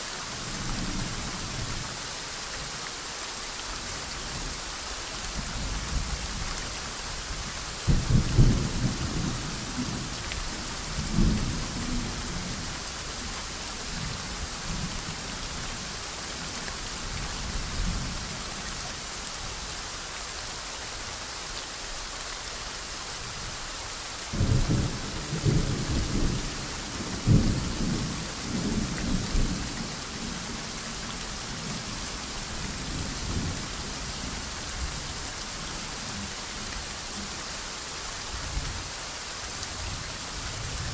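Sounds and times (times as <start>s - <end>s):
soft rain: 0.0s - 40.9s.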